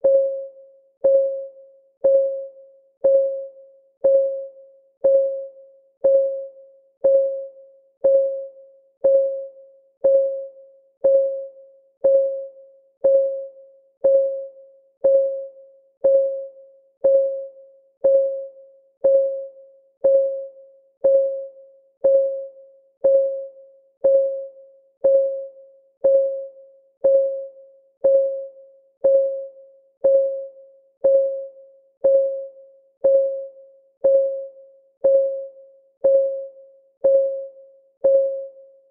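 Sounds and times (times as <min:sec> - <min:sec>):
countdown timer ticking: 0:03.0 - 0:38.6.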